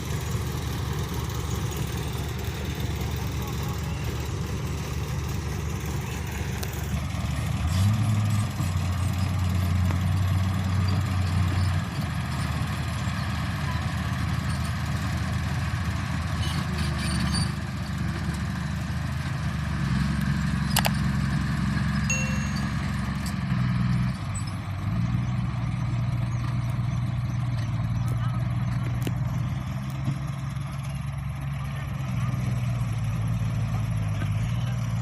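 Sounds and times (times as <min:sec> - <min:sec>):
heavy equipment engines rumbling: 0:00.0 - 0:35.0.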